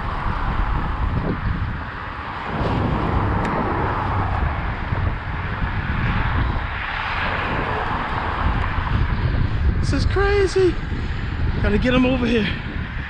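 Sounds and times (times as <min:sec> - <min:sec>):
car traffic hiss and rumble: 0:00.0 - 0:13.0
wind buffeting microphone: 0:00.0 - 0:13.0.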